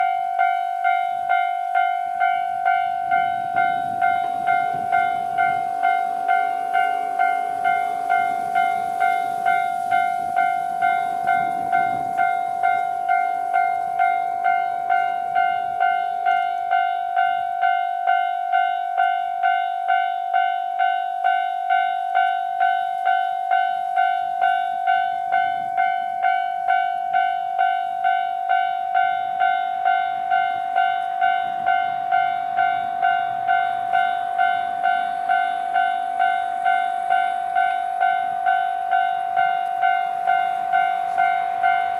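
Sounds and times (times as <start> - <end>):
diesel train rumbling: 0.0 - 41.9
level-crossing bell ringing: 0.0 - 41.9.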